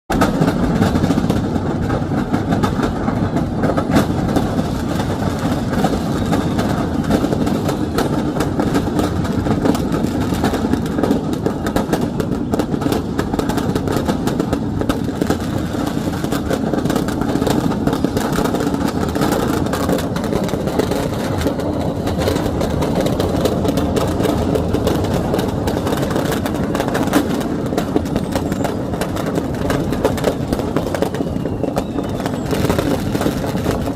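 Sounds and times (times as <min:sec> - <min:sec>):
firecrackers crackling: 0:00.1 - 0:33.9.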